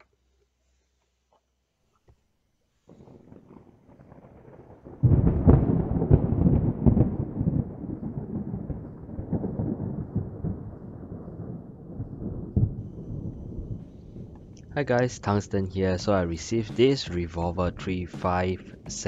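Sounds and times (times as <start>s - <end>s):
thunder-like rumble with crackles: 2.9s - 19.0s.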